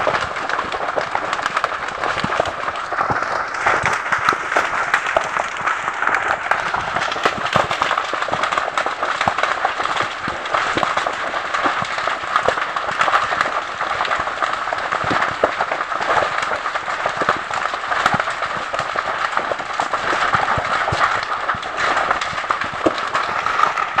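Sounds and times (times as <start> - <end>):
brush fire crackling and popping: 0.0 - 24.0.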